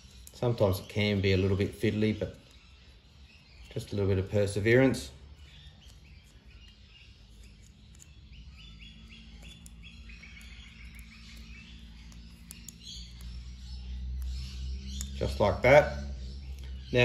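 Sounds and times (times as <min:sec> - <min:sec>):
faint birds chirping: 0:00.0 - 0:17.0
low steady hum: 0:00.0 - 0:17.0.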